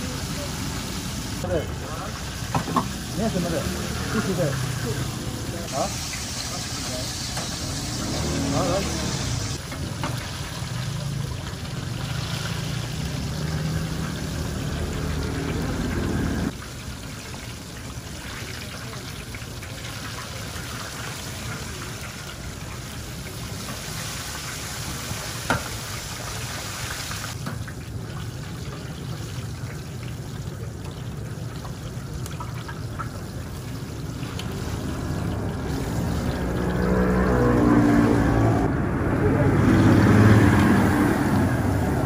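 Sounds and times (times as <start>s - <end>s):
oil bubbling and sizzling: 0.0s - 42.0s.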